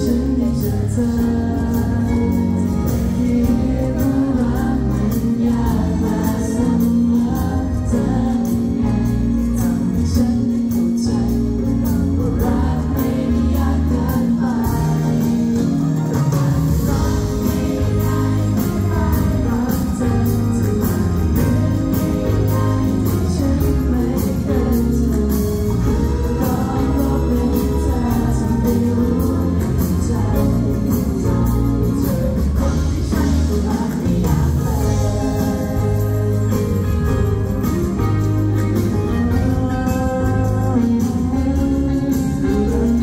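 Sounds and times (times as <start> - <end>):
man singing into microphone: 0.0 - 16.1, 16.7 - 43.0
pop backing music with bass beat: 0.0 - 43.0.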